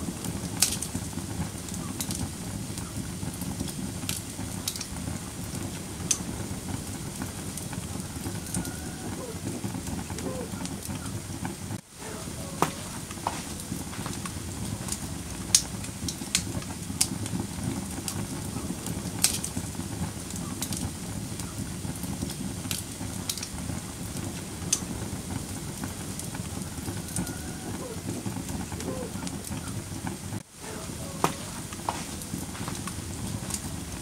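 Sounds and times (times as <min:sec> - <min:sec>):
fire crackling and popping: 0:00.0 - 0:34.0
fire flames rumbling: 0:00.0 - 0:34.0.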